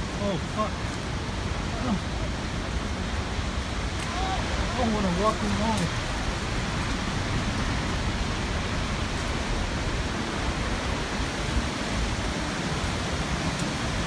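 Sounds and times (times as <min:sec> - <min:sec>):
heavy spray falling like rain: 0:00.0 - 0:14.0
waterfall rushing: 0:00.0 - 0:14.0.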